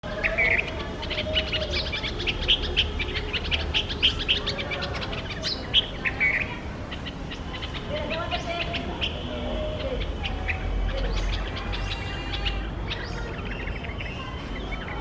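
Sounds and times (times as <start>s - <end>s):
birds alarm calling: 0.0s - 15.0s.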